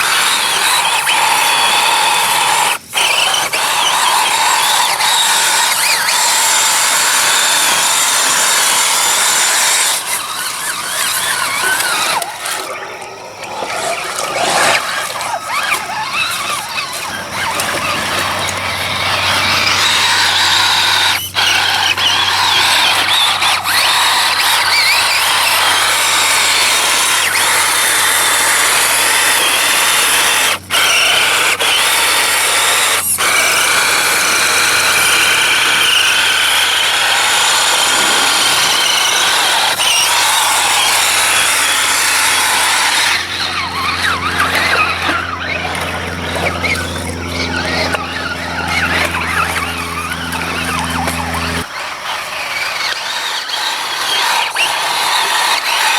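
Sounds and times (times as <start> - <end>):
toy truck electric motor whining: 0.0 - 55.9
steady low hum: 4.4 - 52.6.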